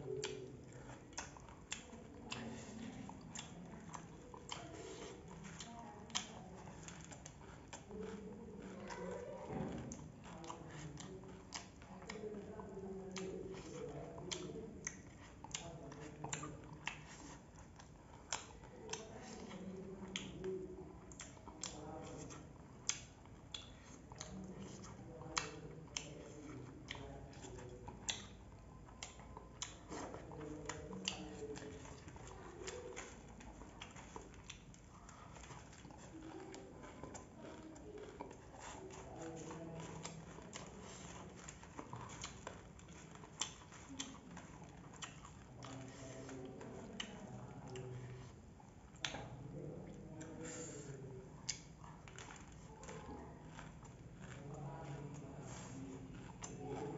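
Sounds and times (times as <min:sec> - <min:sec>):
crunching puffed rice: 0:00.3 - 0:49.4, 0:50.0 - 0:56.9.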